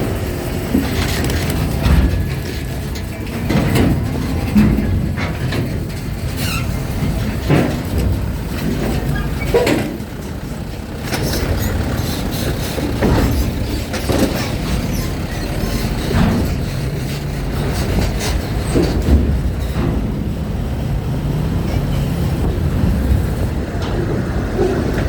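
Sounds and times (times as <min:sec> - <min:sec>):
metallic clanks: 0:00.0 - 0:25.0
vehicle engines rumbling: 0:00.0 - 0:25.0.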